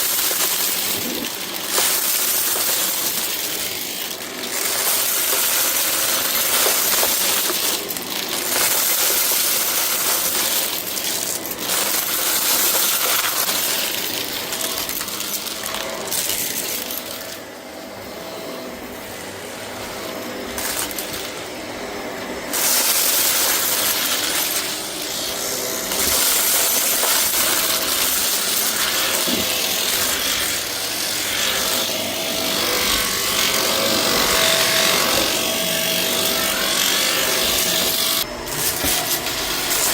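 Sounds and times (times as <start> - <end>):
debris rattling in vacuum: 0.0 - 17.5, 19.2 - 39.9
vacuum cleaner running: 0.0 - 39.9.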